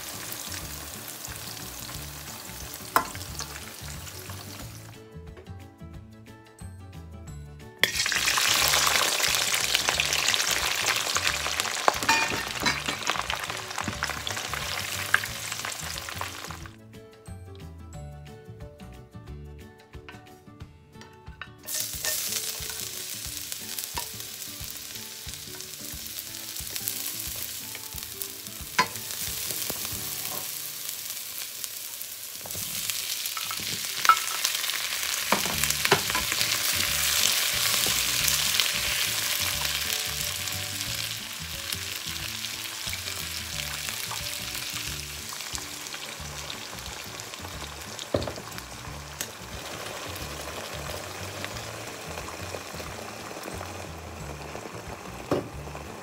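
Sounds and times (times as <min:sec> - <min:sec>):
food sizzling in hot oil: 0:00.0 - 0:05.0, 0:07.8 - 0:16.8, 0:21.6 - 0:56.0
soft background music: 0:00.0 - 0:56.0.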